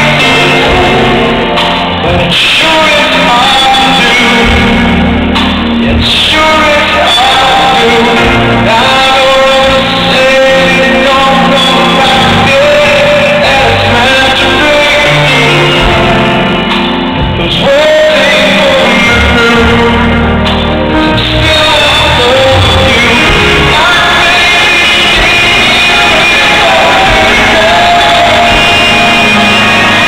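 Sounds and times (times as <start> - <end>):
live band playing a ballad: 0.0 - 30.0
man singing: 0.0 - 30.0.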